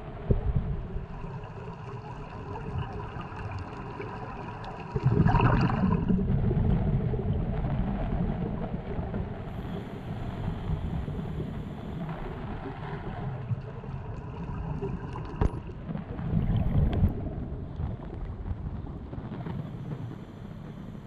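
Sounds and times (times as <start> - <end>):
underwater rumble and gurgling: 0.0 - 21.0.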